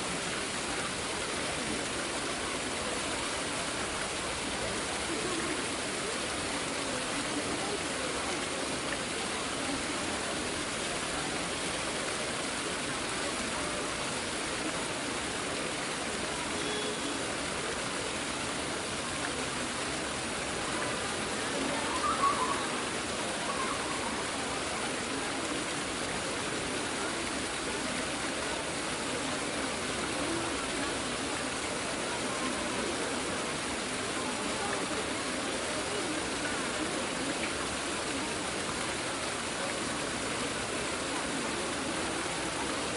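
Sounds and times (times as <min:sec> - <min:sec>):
murmur of crowd talking: 0:00.0 - 0:42.9.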